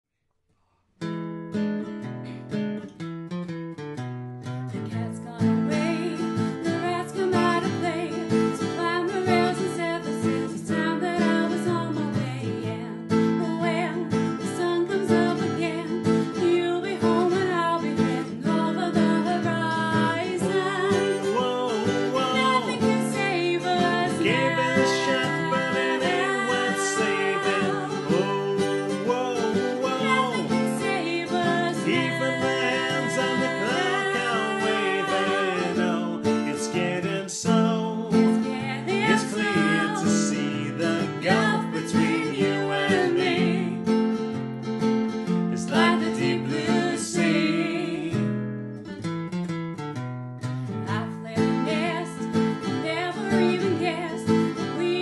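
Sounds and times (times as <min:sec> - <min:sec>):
acoustic guitar strumming: 0:01.0 - 0:55.0
woman and man singing: 0:04.8 - 0:44.0, 0:45.5 - 0:48.4, 0:50.9 - 0:55.0.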